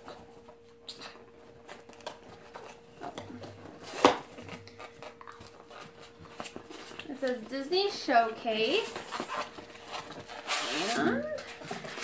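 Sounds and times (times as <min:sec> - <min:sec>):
hands rustling packaging: 0:00.0 - 0:12.0.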